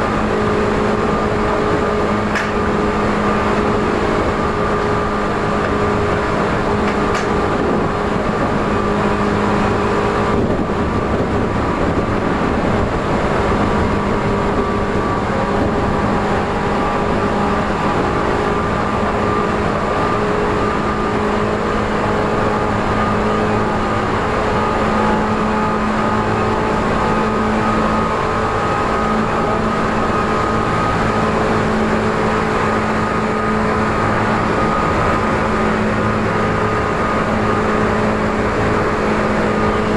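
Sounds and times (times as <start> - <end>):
train motor hum: 0.0 - 39.9
wheel and rail noise: 0.0 - 39.9.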